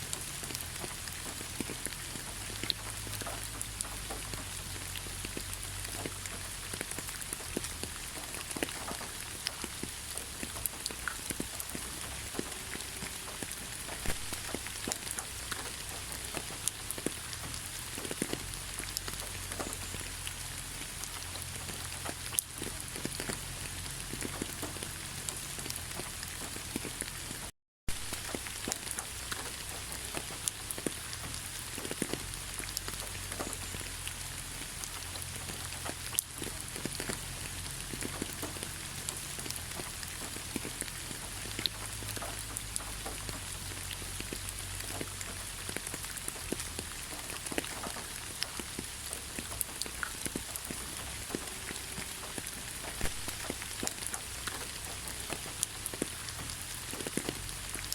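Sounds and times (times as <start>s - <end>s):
raindrops ticking: 0.0s - 57.9s
steady rain hiss: 0.0s - 57.9s.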